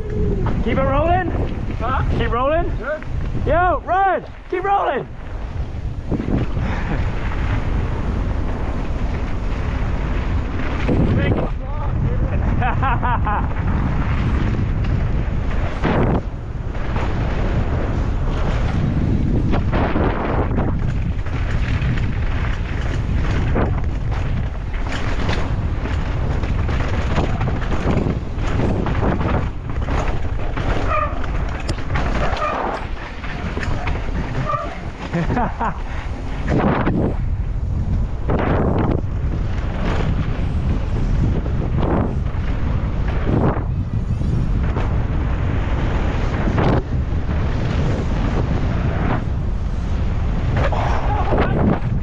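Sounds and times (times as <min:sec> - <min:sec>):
bike knocking and rattling: 0:00.0 - 0:52.0
wind buffeting microphone: 0:00.0 - 0:52.0.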